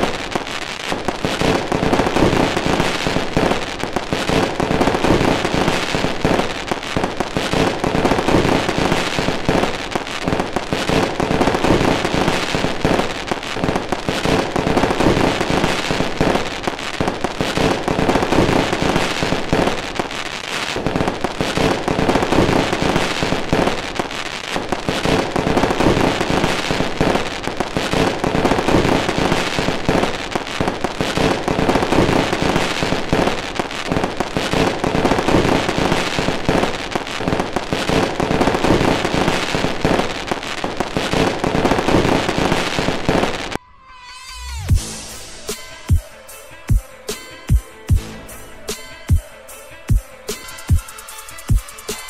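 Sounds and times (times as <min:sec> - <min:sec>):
fireworks bangs and crackles: 0:00.0 - 0:43.6, 0:44.3 - 0:52.0.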